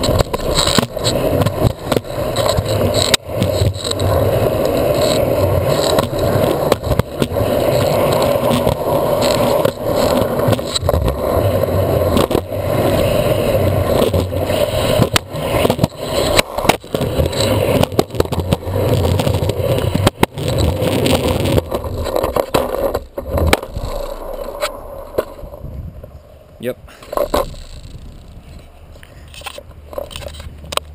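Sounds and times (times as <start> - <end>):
skateboard clacks and knocks: 0.0 - 25.7
skateboard wheels rumbling on pavement: 0.0 - 30.9.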